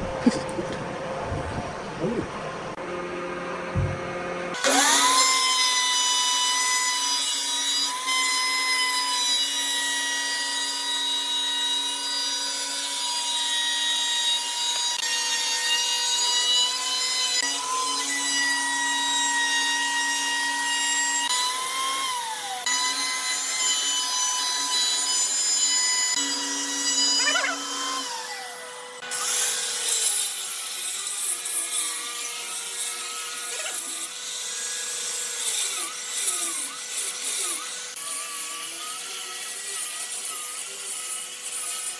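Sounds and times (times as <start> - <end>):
power tool motor whining: 3.7 - 41.9.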